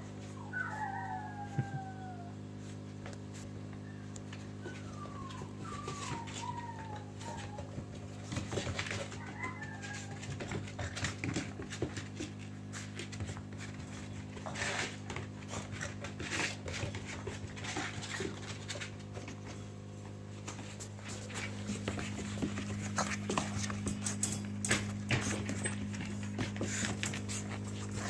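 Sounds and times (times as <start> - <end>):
dogs scuffling and scratching: 0.0 - 1.7, 2.4 - 28.0.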